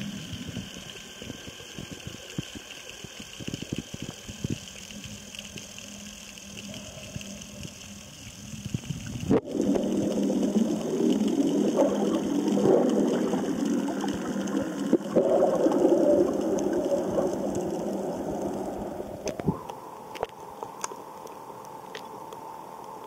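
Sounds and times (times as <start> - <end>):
faint steady hum: 0.0 - 23.0
low machine-like underwater drone: 0.0 - 23.0.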